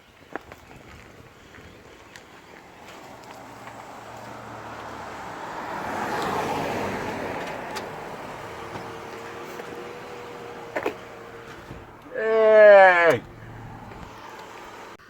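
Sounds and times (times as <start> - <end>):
vehicle driving by: 2.8 - 15.0.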